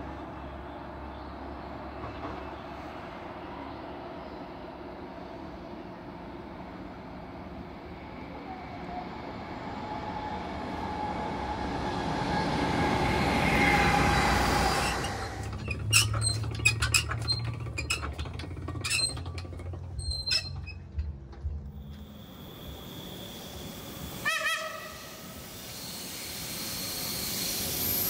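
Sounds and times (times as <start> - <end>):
passenger train passing on rails: 0.0 - 16.4, 20.8 - 28.0.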